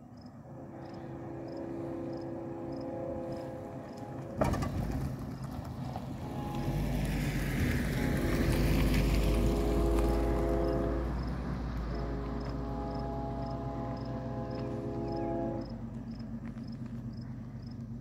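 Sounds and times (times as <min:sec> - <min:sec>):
vehicle passing: 0:00.3 - 0:18.0.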